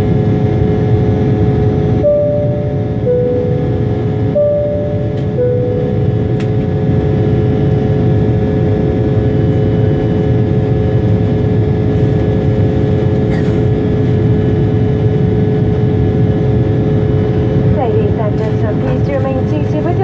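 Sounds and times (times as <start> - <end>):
steady hum of held tones: 0.0 - 20.0
turbofan engines droning: 0.0 - 20.0.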